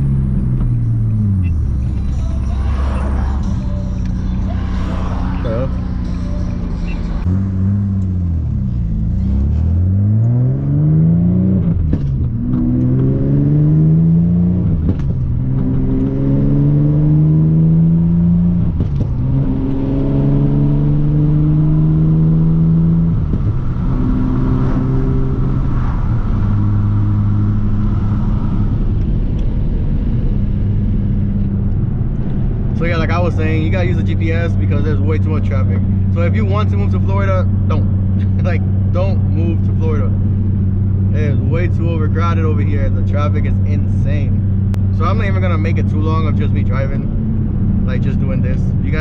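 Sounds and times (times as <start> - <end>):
car engine accelerating through gears: 0.0 - 49.0.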